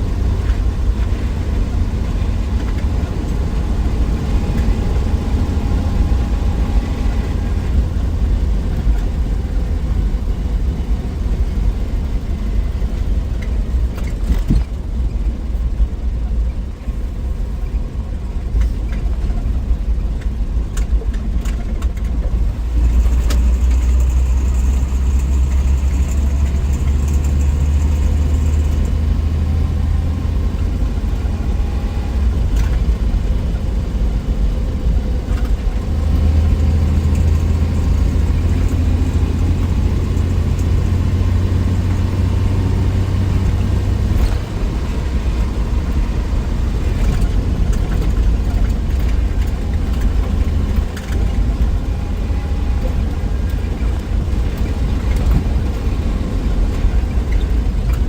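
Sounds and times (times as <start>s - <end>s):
car engine running: 0.0s - 58.0s
road noise: 0.0s - 58.0s.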